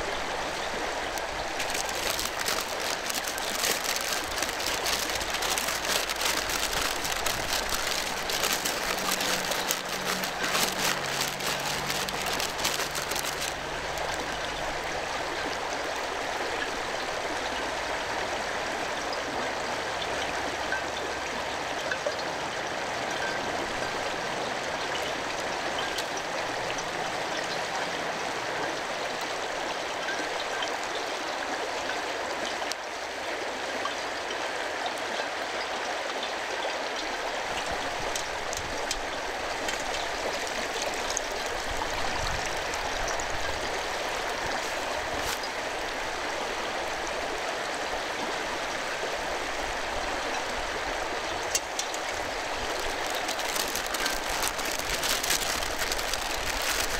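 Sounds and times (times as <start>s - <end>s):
stream flowing: 0.0s - 56.9s.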